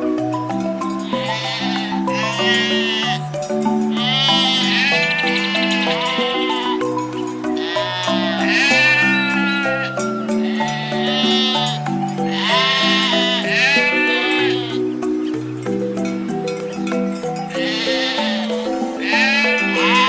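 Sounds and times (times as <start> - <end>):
background music with low notes: 0.0 - 20.0.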